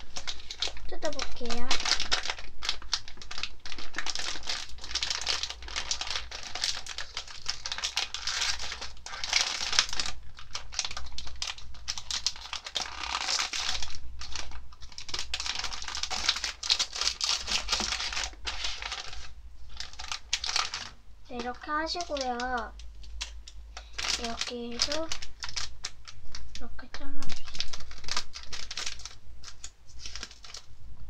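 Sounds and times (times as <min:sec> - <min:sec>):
plastic wrapper crinkling: 0:00.0 - 0:31.0.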